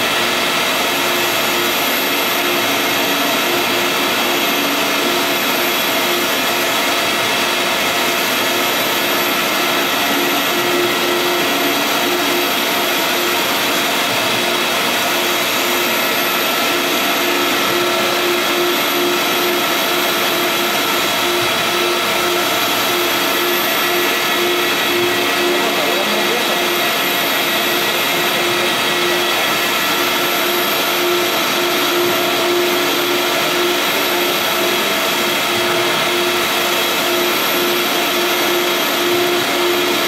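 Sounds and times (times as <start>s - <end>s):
printer machine whir: 0.0s - 40.0s.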